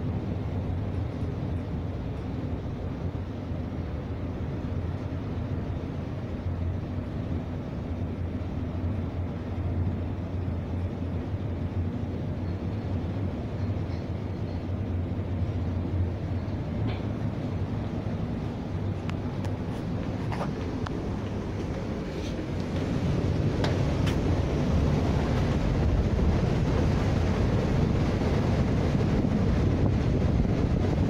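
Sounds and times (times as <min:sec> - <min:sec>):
ship engines droning: 0:00.0 - 0:31.0.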